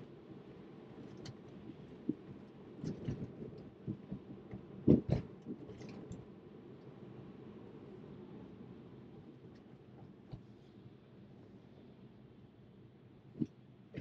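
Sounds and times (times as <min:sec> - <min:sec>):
road and tyre noise in car: 0:00.0 - 0:14.0.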